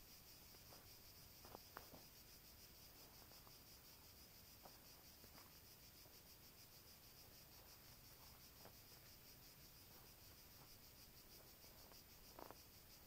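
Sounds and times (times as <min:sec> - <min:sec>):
pulsing insect chorus: 0:00.0 - 0:13.0.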